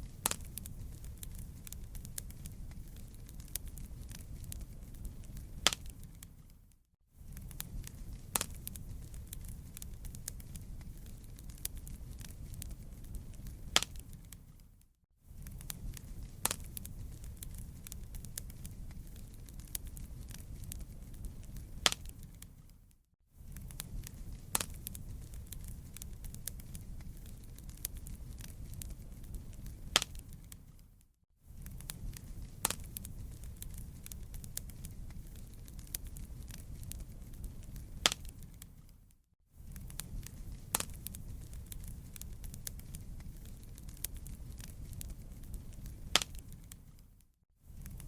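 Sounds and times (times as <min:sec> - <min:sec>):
campfire crackling: 0:00.0 - 0:14.8, 0:15.4 - 0:47.2, 0:47.8 - 0:48.0.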